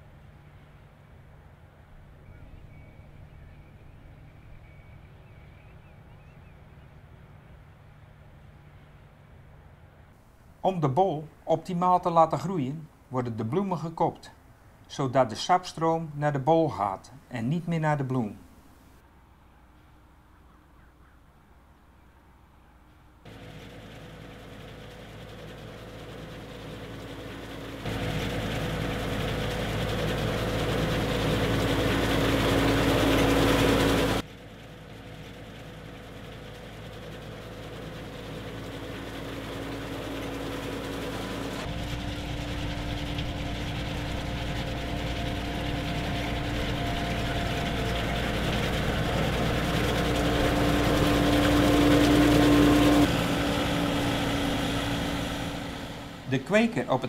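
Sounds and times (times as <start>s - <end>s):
machine engine running steadily: 0.0s - 13.1s, 22.2s - 57.0s.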